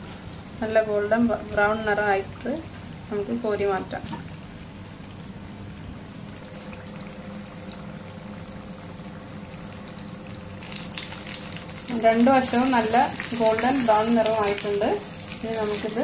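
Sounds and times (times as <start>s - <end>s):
food deep-frying in hot oil: 0.0s - 16.0s.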